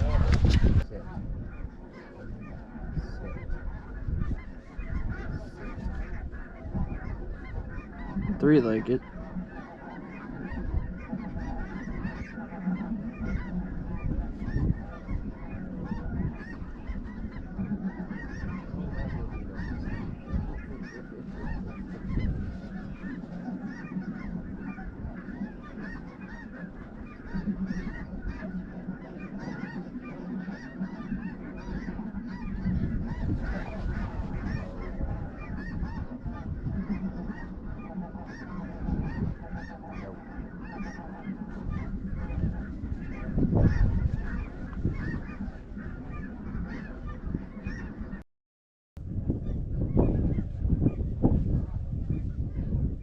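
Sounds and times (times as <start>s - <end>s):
geese honking: 0.0s - 48.2s, 49.2s - 53.0s.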